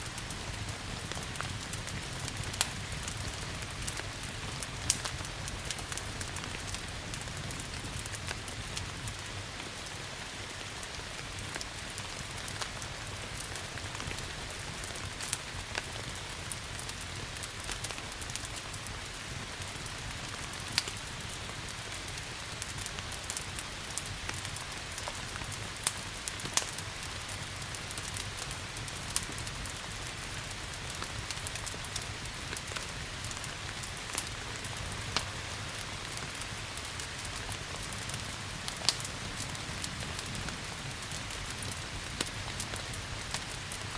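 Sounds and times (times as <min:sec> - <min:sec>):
steady rain: 0:00.0 - 0:43.9
wood fire crackling and popping: 0:00.0 - 0:43.9.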